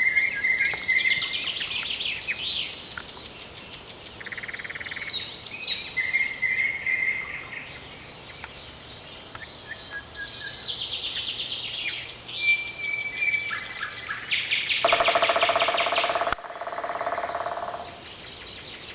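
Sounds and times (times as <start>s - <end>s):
birds singing: 0.0s - 18.9s.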